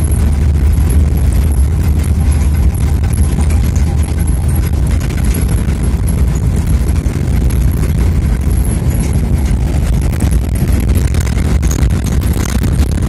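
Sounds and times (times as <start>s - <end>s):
vehicle rumbling on dirt road: 0.0s - 13.0s.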